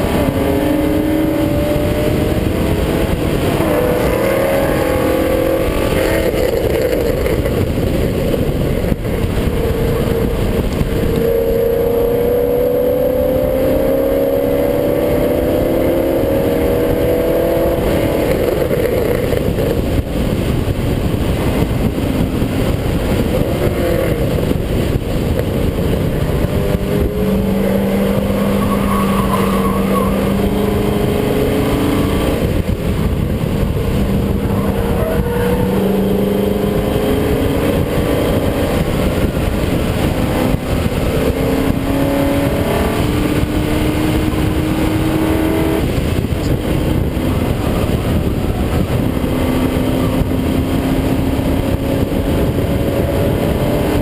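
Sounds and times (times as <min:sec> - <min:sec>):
race car engine revving: 0:00.0 - 0:54.0
wind buffeting microphone: 0:00.0 - 0:54.0.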